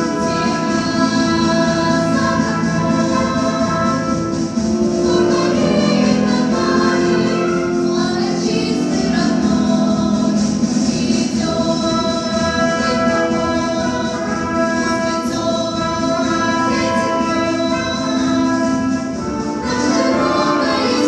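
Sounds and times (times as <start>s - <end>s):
children's choir singing: 0.0s - 21.0s
pop instrumental backing: 0.0s - 21.0s.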